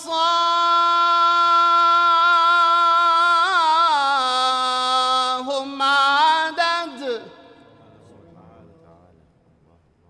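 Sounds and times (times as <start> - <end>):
man singing religious chant: 0.0 - 10.0.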